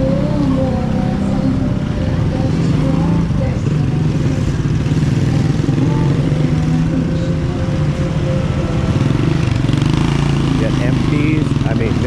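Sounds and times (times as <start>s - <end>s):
small motorcycle engine running: 0.0s - 12.0s
street traffic: 0.0s - 12.0s.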